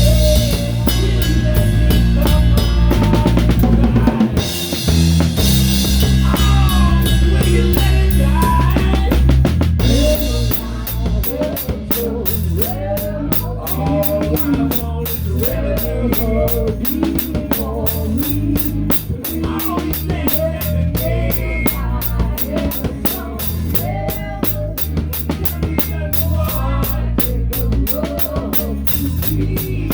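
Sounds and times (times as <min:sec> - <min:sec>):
drums beating: 0:00.0 - 0:29.9
live rock band playing: 0:00.0 - 0:29.9.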